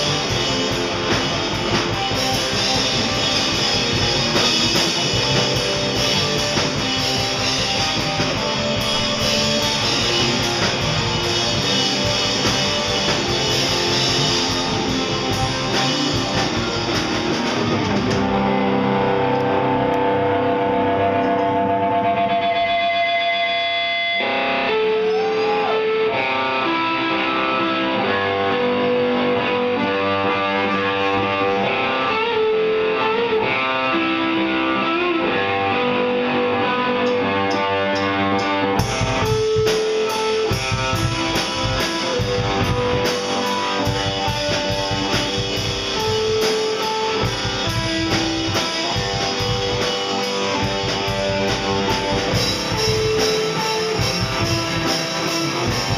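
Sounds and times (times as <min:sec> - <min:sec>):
drum kit playing: 0:00.0 - 0:55.9
electric guitars playing melody: 0:00.0 - 0:55.9.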